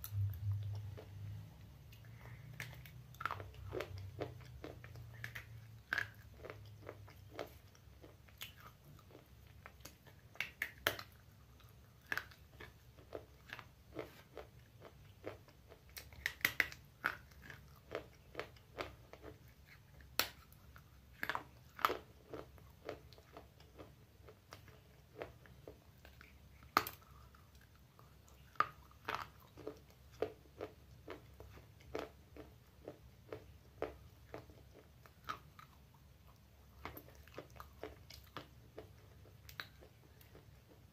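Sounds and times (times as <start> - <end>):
clay pot crunching when chewed: 0.0 - 40.9.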